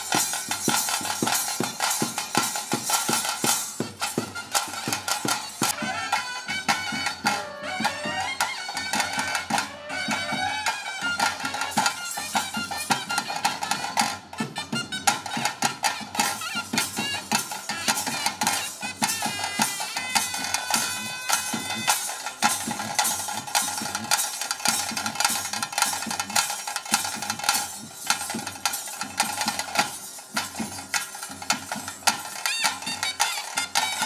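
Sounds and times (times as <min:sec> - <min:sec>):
drums beaten in fast rhythm: 0:00.0 - 0:34.0.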